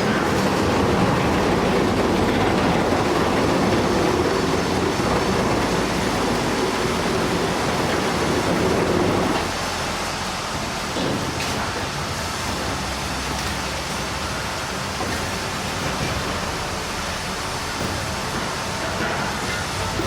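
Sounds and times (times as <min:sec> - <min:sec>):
large vehicle running: 0:00.0 - 0:20.0.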